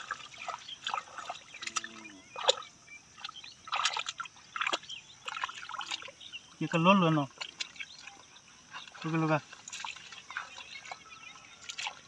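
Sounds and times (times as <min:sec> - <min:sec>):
squelching in muddy water: 0:00.0 - 0:12.0.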